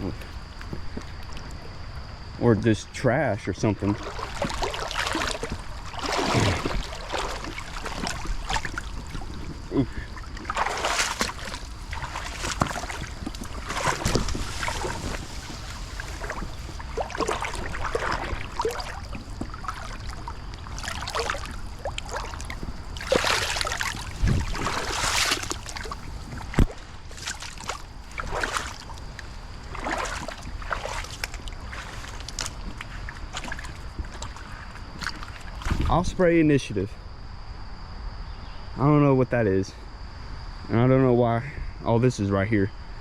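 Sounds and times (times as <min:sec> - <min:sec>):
steady low rumble: 0:00.0 - 0:34.8
wading through water: 0:00.0 - 0:36.3.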